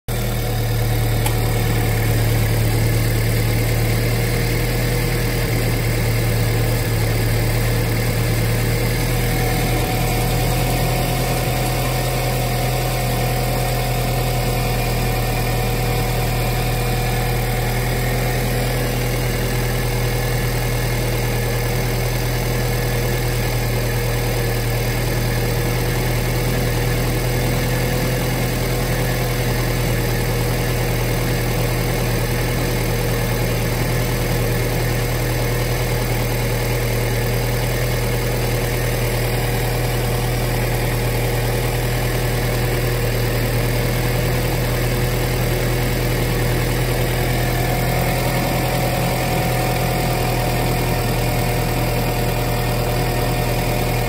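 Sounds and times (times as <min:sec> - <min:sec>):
car engine idling: 0:00.1 - 0:54.0.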